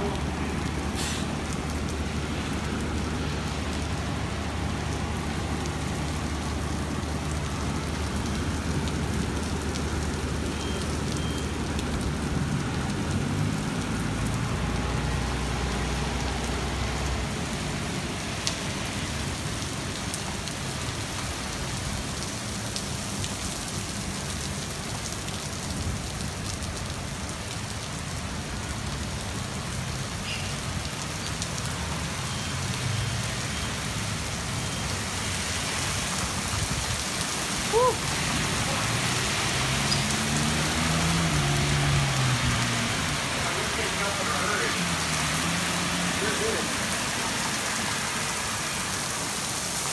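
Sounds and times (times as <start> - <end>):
heavy rain on pavement: 0.0 - 49.9.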